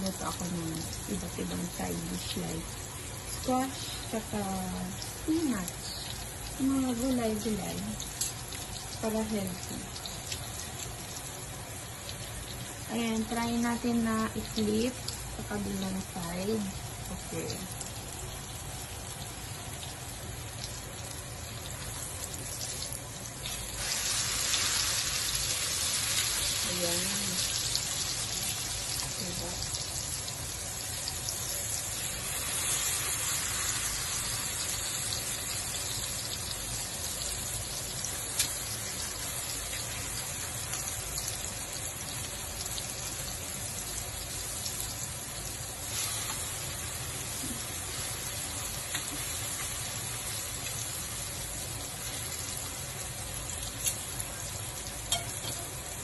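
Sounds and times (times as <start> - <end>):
omelettes sizzling in oil: 0.0 - 56.0.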